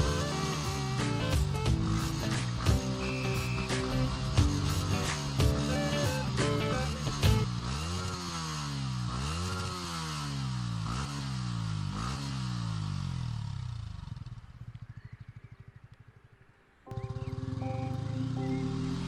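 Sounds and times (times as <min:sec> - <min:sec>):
engine revving: 0:00.0 - 0:16.1, 0:16.9 - 0:19.0.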